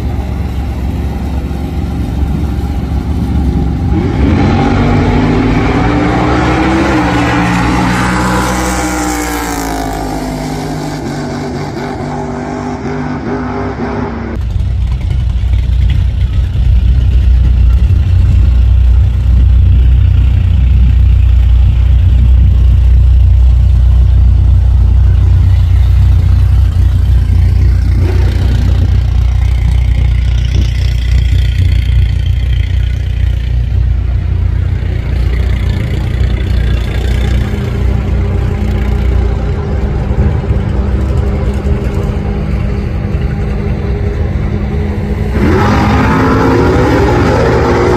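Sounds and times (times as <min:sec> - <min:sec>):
cars accelerating at full throttle: 0:00.0 - 0:14.4, 0:17.0 - 0:47.9
deep car engine rumble: 0:00.0 - 0:47.9.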